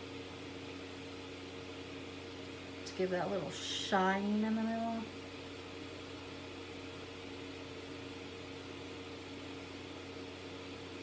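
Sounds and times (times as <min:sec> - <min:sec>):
low even hum: 0:00.0 - 0:11.0.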